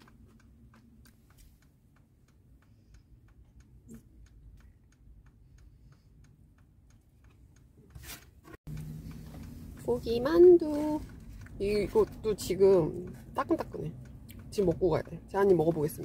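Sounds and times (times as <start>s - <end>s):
car indicator ticking: 0.0s - 7.9s, 8.7s - 16.0s.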